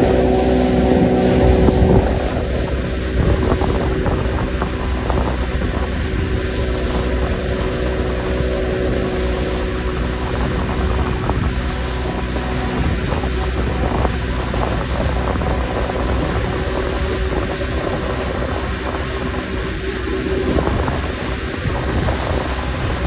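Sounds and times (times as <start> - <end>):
outboard motor running: 0.0 - 23.0
rushing water: 0.0 - 23.0
wind buffeting microphone: 0.0 - 23.0.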